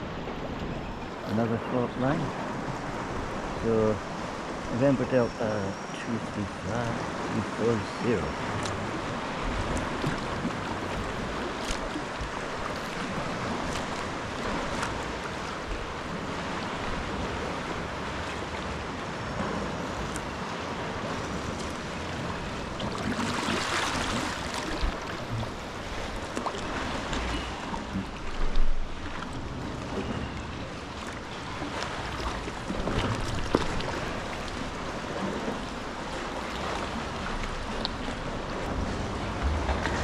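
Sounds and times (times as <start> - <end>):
sea water sloshing around kayak: 0.0 - 40.0
wave surging: 1.2 - 40.0.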